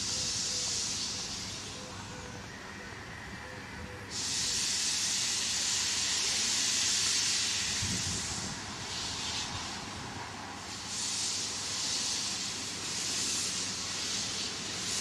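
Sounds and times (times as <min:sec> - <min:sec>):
steam locomotive hissing steam: 0:00.0 - 0:15.0.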